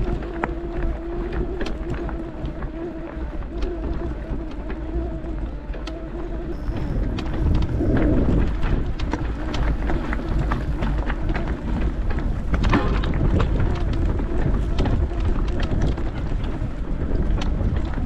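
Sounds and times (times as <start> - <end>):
bike tyres crunching over stones: 0.0 - 18.0
wind buffeting microphone: 0.0 - 18.0.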